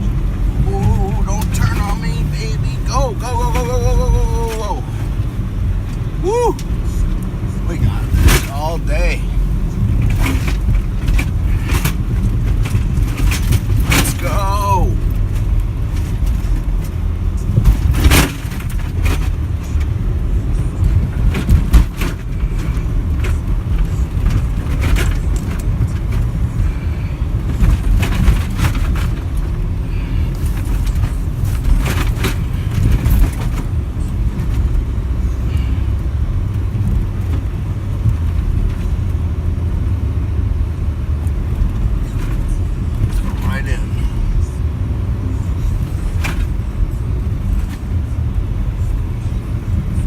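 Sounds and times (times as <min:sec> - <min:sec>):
vehicle knocks and rattles: 0:00.0 - 0:44.6, 0:45.2 - 0:50.0
engine and tyres rumbling in snow: 0:00.0 - 0:50.0.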